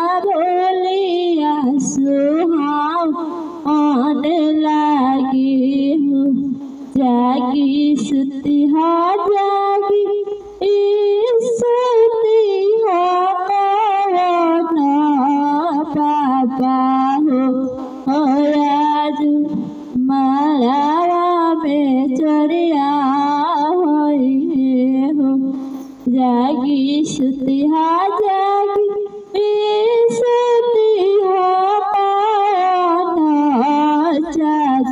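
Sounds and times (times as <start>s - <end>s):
woman singing into a microphone: 0.0s - 34.9s.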